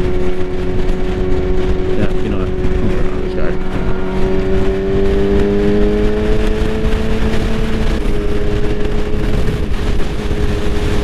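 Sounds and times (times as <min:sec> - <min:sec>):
motorcycle engine hum: 0:00.0 - 0:11.0
wind rush: 0:00.0 - 0:11.0.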